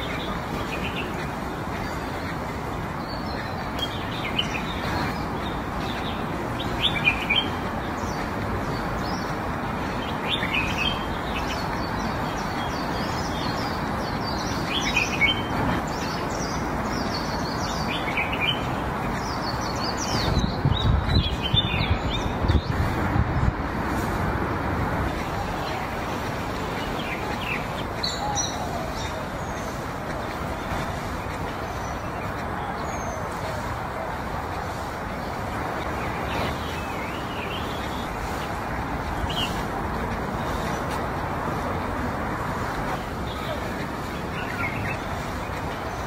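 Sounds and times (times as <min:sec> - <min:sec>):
small birds chirping: 0:00.0 - 0:46.0
steady background noise: 0:00.0 - 0:46.0.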